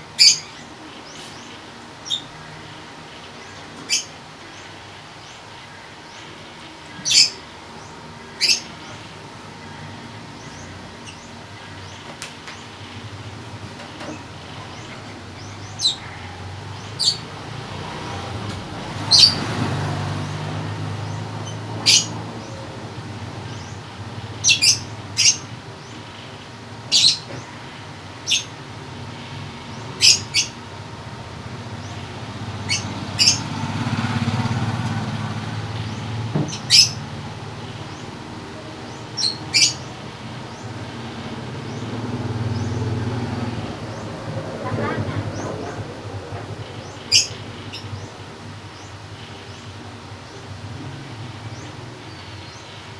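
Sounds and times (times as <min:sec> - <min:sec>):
bird chirping: 0:00.0 - 0:52.9
rumble of passing vehicles: 0:00.0 - 0:52.9.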